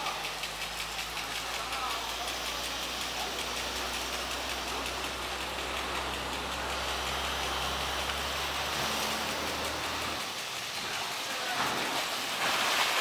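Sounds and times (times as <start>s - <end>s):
low engine hum: 0.0s - 11.2s
sprinkler water hissing: 0.0s - 13.0s
water pattering on foliage: 0.0s - 13.0s.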